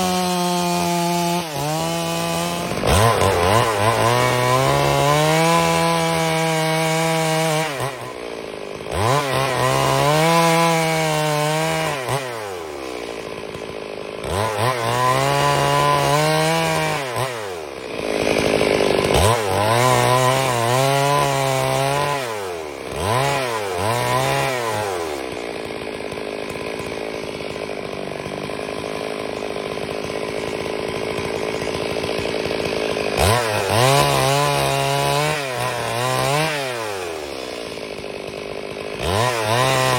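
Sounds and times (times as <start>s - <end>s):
chainsaw ripping a log: 0.0s - 39.9s.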